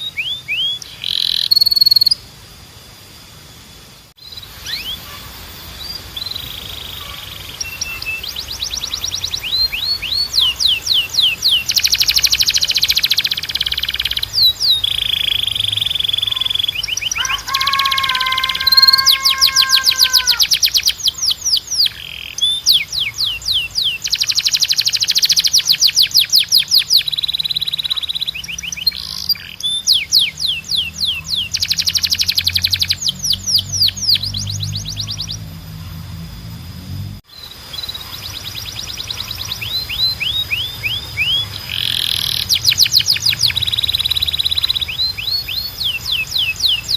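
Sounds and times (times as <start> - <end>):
canary singing: 0.0 - 2.3, 4.2 - 36.1, 37.3 - 46.9.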